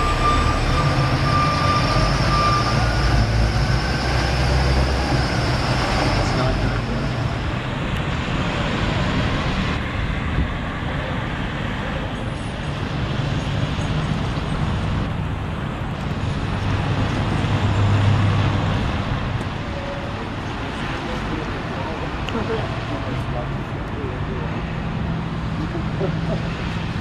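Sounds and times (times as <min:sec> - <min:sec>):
traffic on wet roads: 0:00.0 - 0:27.0.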